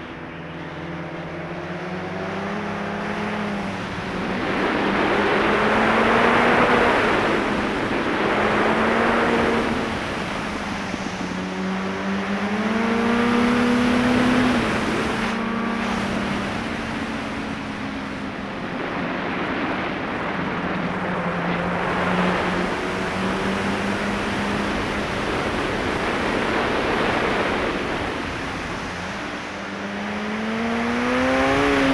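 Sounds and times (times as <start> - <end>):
motorcycle engine revving: 0.6 - 18.7, 21.4 - 31.9
rushing wind noise: 1.0 - 31.9.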